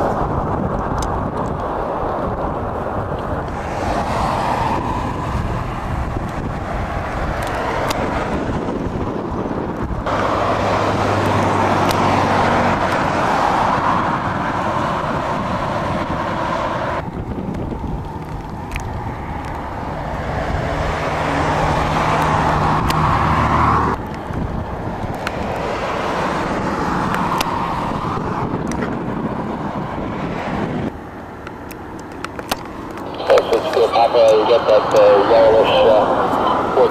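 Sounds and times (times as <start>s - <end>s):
low engine hum: 0.0s - 36.9s
road vehicle rushing: 0.0s - 36.9s.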